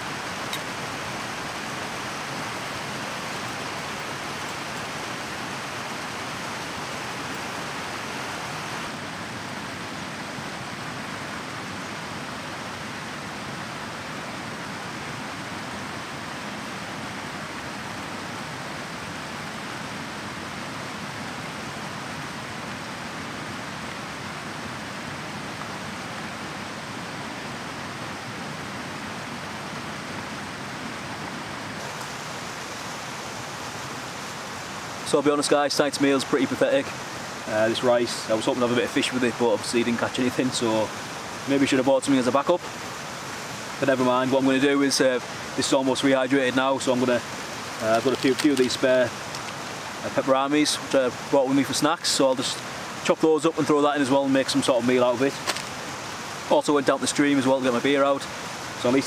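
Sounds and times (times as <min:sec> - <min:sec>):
mountain stream rushing: 0:00.0 - 0:59.0.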